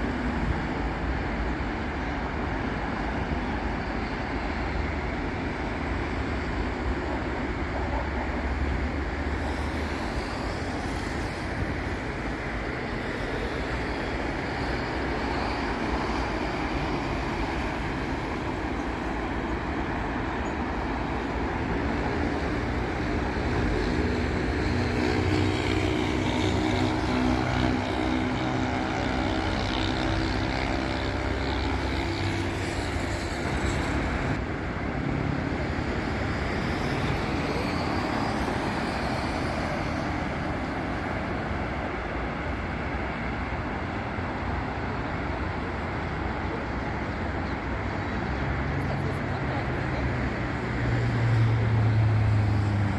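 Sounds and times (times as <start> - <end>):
heavy vehicle engine hum: 0.0 - 52.9
road traffic passing: 0.0 - 52.9.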